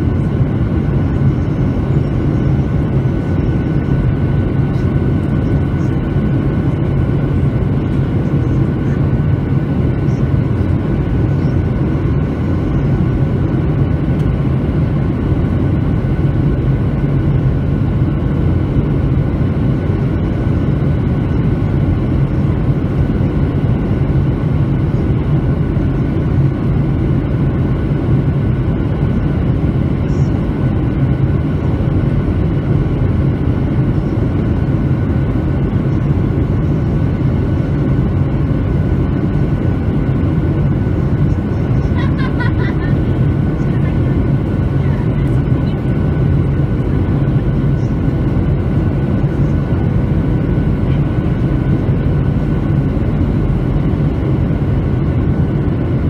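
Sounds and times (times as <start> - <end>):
aircraft engine rumble: 0.0 - 56.0.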